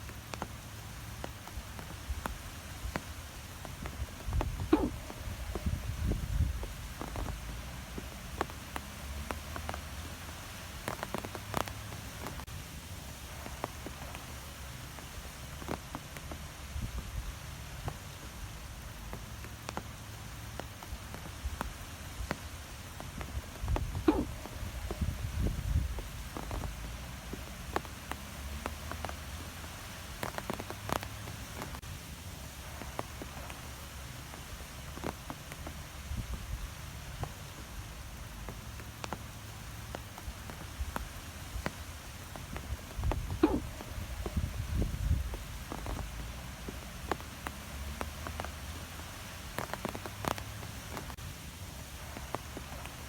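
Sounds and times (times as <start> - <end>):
leaves ticking and crackling: 0.0 - 53.0
wind rumble on microphone: 0.0 - 53.0
wind through trees: 0.0 - 53.0.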